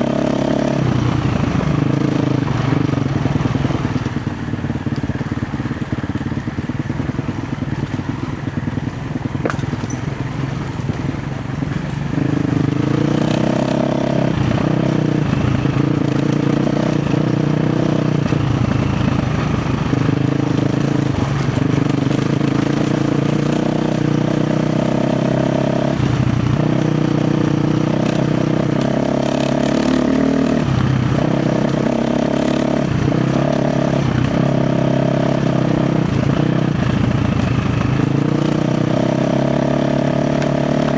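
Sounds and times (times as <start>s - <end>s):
dirt bike engine revving: 0.0s - 4.2s, 11.9s - 40.9s.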